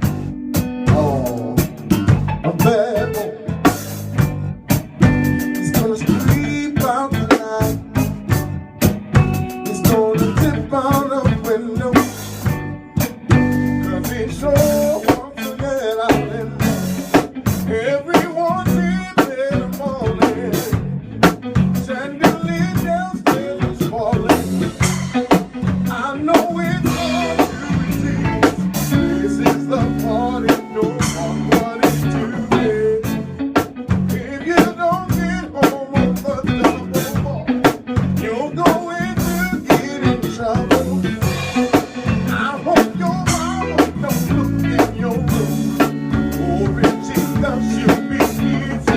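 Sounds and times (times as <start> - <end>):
band playing: 0.0 - 48.9
snare and bass drum beat: 0.0 - 48.9.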